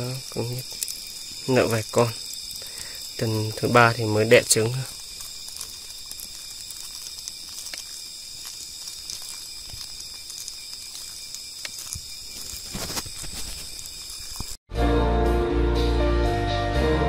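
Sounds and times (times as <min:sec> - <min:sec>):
crickets shrilling: 0:00.0 - 0:14.7
faint clicks and rustles: 0:00.2 - 0:14.6.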